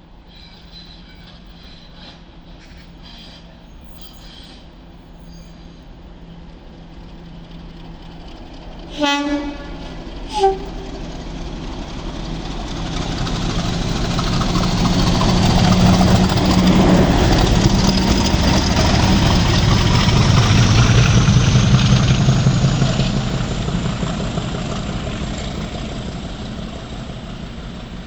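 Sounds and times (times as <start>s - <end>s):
diesel locomotive passing by: 0.0s - 28.0s.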